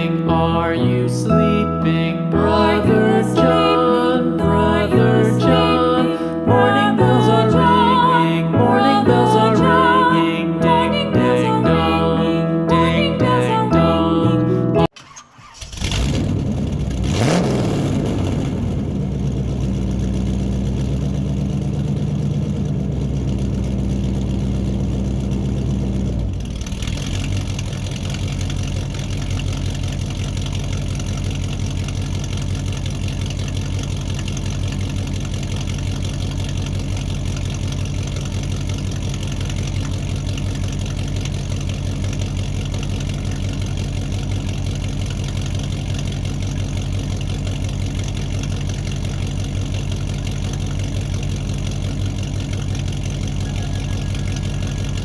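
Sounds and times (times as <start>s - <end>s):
vehicle engine starting and idling: 0.0s - 55.0s.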